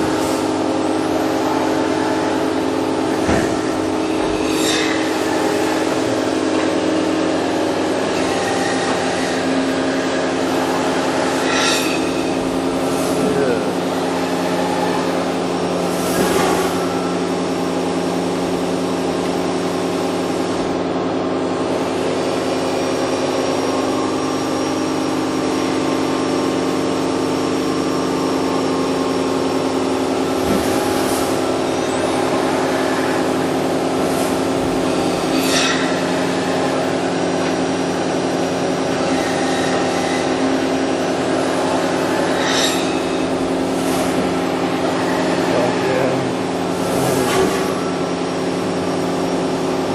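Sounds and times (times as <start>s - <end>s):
machining center humming: 0.0s - 49.9s.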